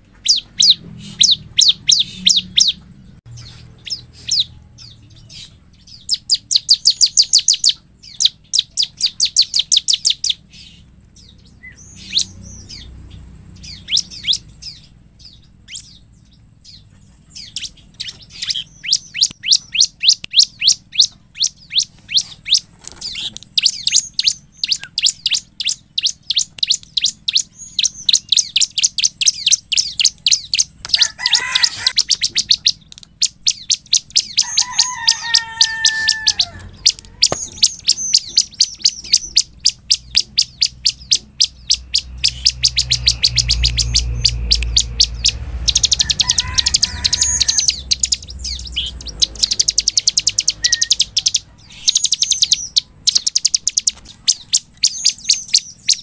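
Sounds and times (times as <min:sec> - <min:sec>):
bird singing rapid high chirps: 0:00.0 - 0:56.0
lower drawn-out bird calls: 0:00.0 - 0:56.0.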